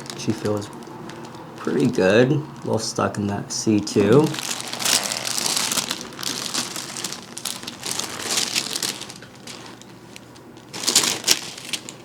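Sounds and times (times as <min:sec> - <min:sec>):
paper table cover crinkling: 0:00.0 - 0:02.1, 0:03.8 - 0:12.0.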